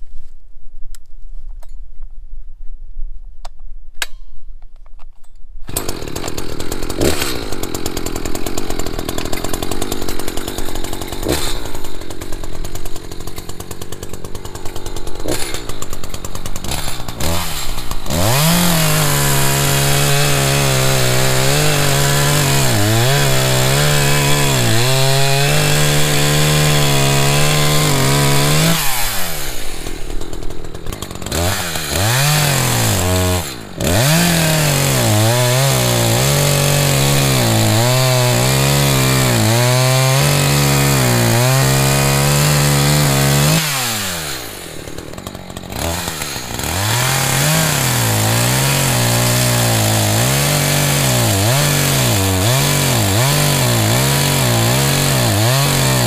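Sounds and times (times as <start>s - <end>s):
chainsaw revving and cutting log: 5.7s - 56.0s.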